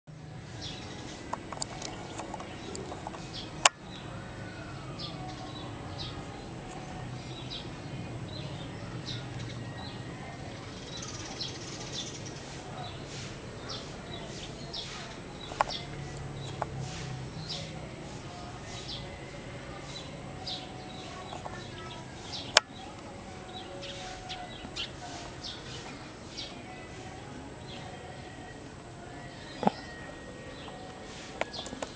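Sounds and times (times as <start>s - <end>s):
bird chirping: 0.2s - 31.9s.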